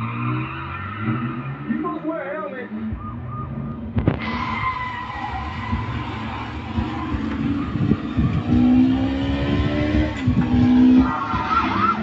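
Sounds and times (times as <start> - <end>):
vehicle engine and traffic: 0.0 - 12.0.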